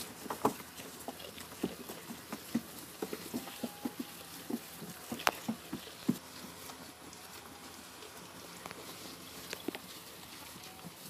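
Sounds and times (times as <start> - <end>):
goats eating with clicks and rustles: 0.0 - 11.0.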